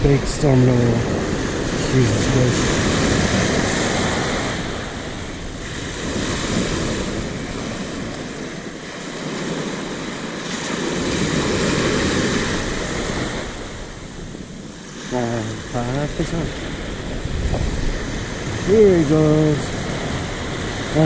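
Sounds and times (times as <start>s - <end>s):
ocean surf breaking: 0.0s - 21.0s
wind buffeting microphone: 0.0s - 21.0s.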